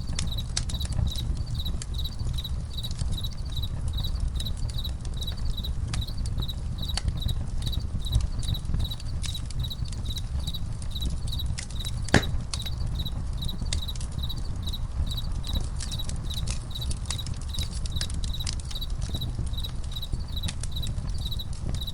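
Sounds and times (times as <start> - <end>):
campfire crackling and popping: 0.0 - 21.9
crickets chirping: 0.0 - 21.9.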